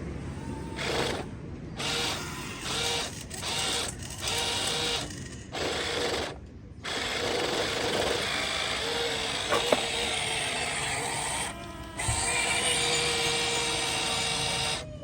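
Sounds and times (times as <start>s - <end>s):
small electric motors whirring: 0.3s - 15.0s.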